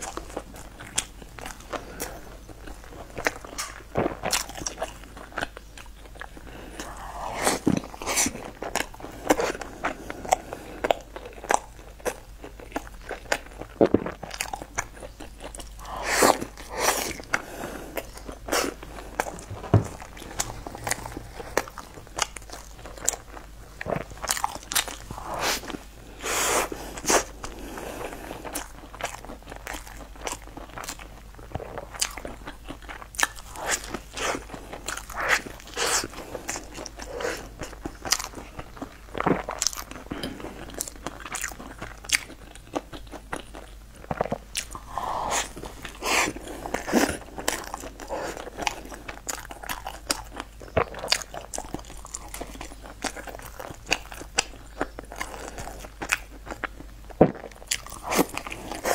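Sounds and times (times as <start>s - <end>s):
biting and chewing crusty bread: 0.0s - 58.9s.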